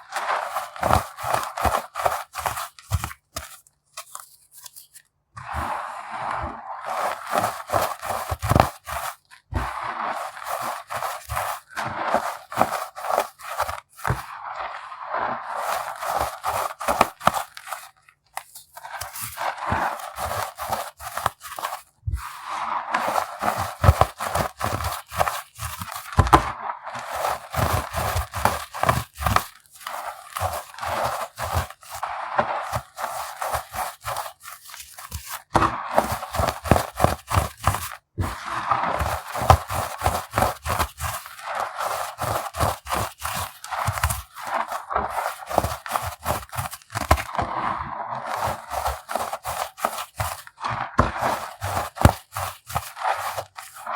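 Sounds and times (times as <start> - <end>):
baking soda lumps crunching: 0.0 - 53.9.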